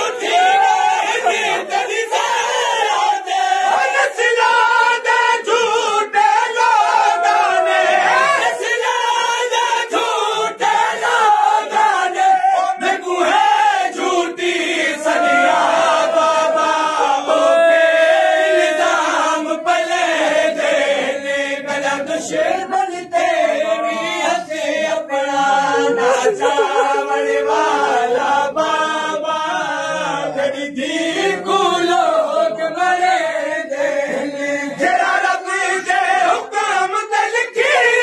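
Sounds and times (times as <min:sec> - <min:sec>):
men chanting a lament: 0:00.0 - 0:38.0.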